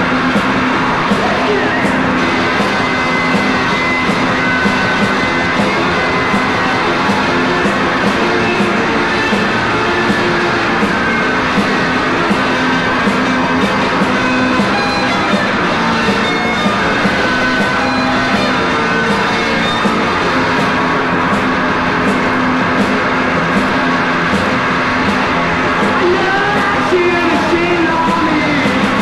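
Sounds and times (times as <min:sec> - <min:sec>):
loud electric guitar: 0:00.0 - 0:29.0
steady drum beat: 0:00.0 - 0:29.0.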